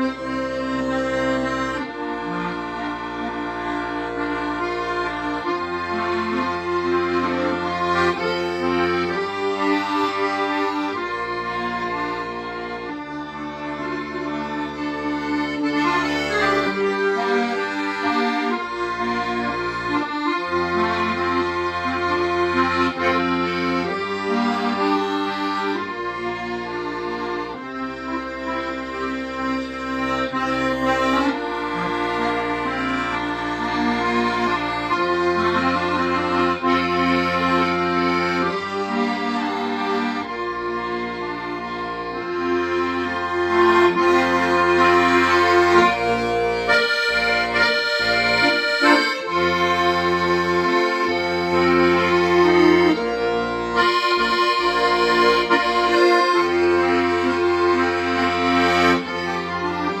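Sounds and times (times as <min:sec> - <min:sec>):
accordion melody: 0:00.0 - 1:00.0.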